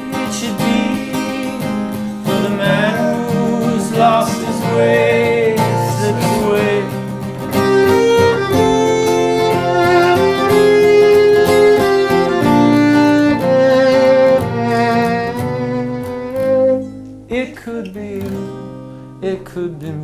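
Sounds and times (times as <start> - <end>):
strummed guitar: 0.0 - 20.0
bowed violin melody: 0.4 - 17.4.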